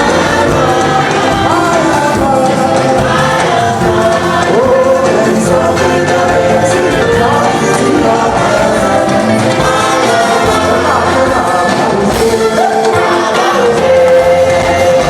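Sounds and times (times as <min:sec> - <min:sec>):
church choir singing gospel: 0:00.0 - 0:15.0.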